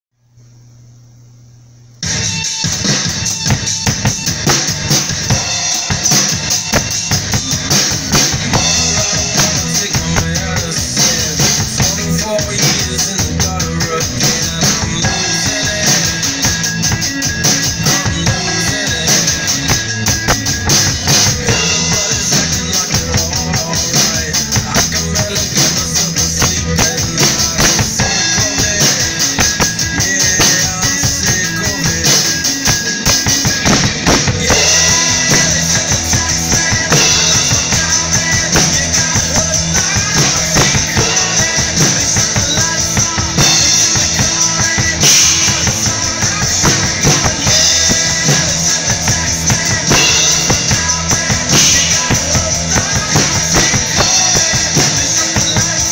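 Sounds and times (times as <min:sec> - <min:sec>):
acoustic drum kit rock beat: 0:02.0 - 0:55.9
recorded rock song: 0:02.0 - 0:55.9.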